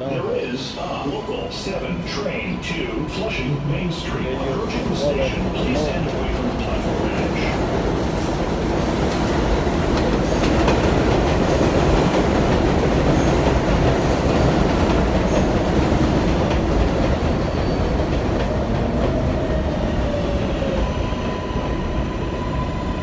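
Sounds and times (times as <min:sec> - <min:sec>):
train wheels rumbling and clattering: 0:00.1 - 0:23.0.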